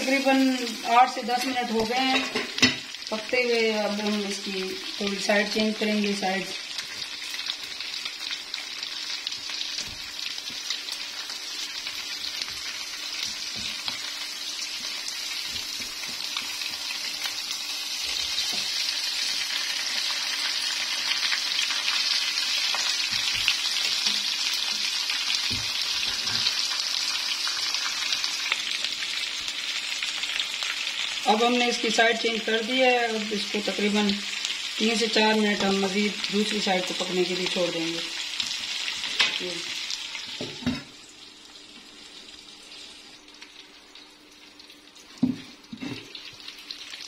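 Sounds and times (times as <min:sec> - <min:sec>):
chicken sizzling in oil: 0:00.0 - 0:47.0.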